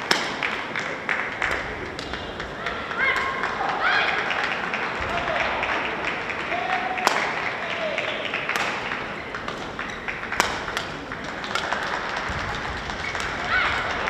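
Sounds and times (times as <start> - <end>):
racket striking shuttlecock: 0.0 - 5.4, 6.4 - 7.5, 8.5 - 14.0
crowd clapping: 0.0 - 14.0.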